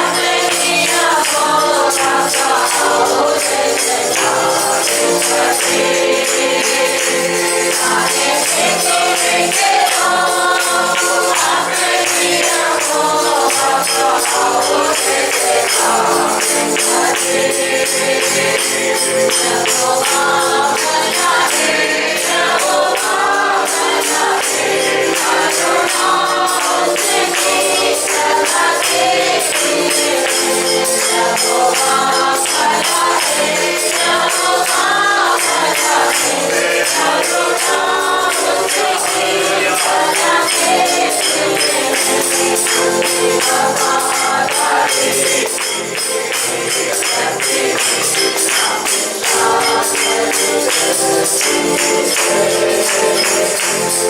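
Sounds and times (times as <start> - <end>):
group singing worship song: 0.0 - 54.0
tambourine shaken to a beat: 0.0 - 54.0.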